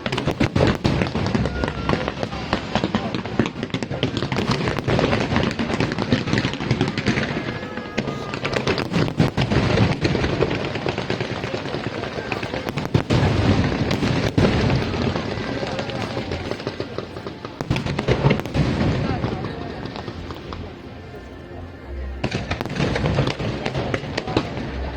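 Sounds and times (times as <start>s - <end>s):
crowd voices: 0.0s - 24.9s
fireworks bangs and crackles: 0.0s - 24.9s.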